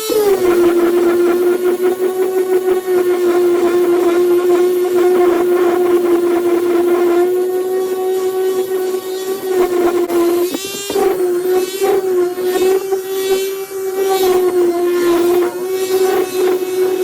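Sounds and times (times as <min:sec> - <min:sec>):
palm sander on wood: 0:00.0 - 0:17.0.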